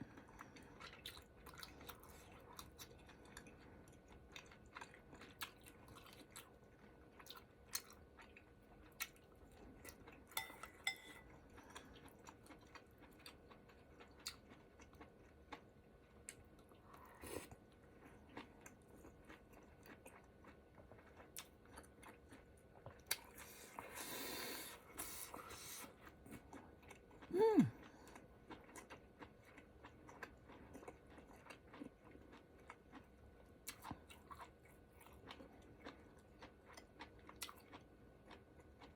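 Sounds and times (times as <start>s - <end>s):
chewing noodles: 0.0s - 38.9s.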